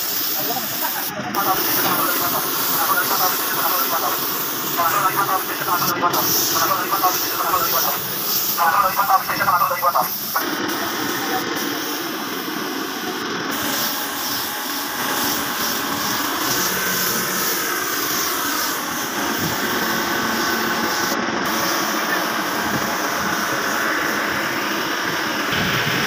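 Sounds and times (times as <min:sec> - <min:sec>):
spray gun hissing: 0:00.0 - 0:26.0.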